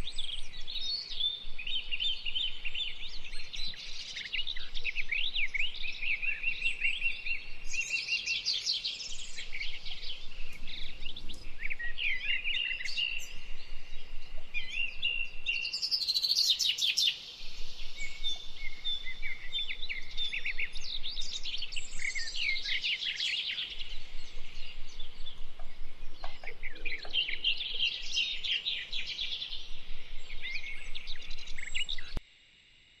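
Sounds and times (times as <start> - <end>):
birdsong chirps and trills: 0.0 - 32.2
whistled bird notes: 0.0 - 32.2.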